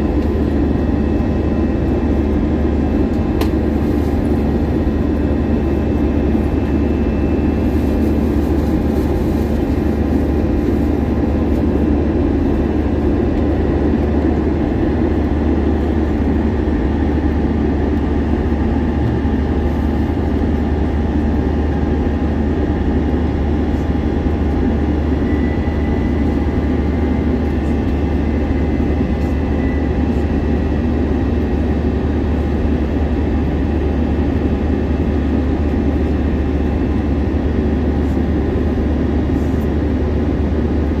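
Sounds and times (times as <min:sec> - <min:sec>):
airliner cabin roar: 0:00.0 - 0:41.0.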